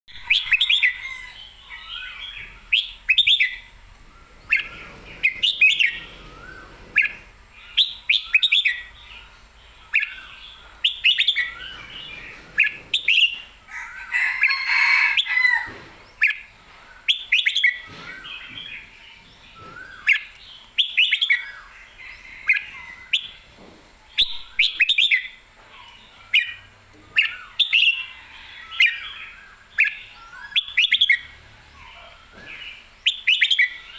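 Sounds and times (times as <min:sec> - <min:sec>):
bird singing warbling phrases: 0:00.1 - 0:13.6, 0:16.2 - 0:23.4, 0:24.1 - 0:33.9.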